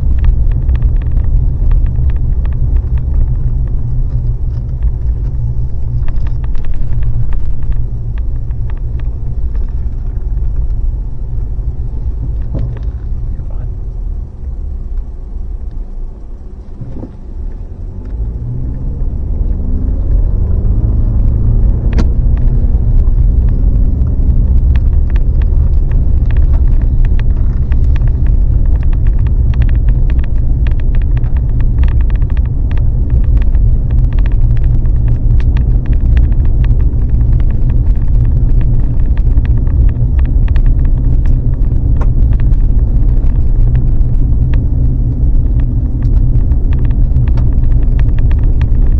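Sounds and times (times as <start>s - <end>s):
road rumble: 0.0s - 48.9s
small clicks and rattles: 0.0s - 48.9s
vehicle engine accelerating: 0.0s - 48.9s.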